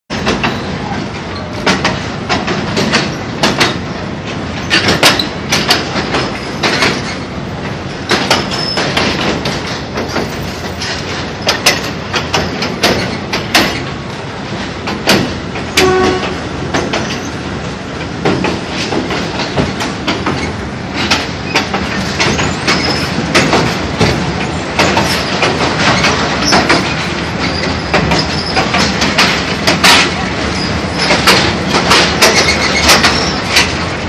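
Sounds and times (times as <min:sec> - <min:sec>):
train carriage rumble and rattle: 0:00.1 - 0:34.0
wheels clacking and knocking: 0:00.1 - 0:34.0.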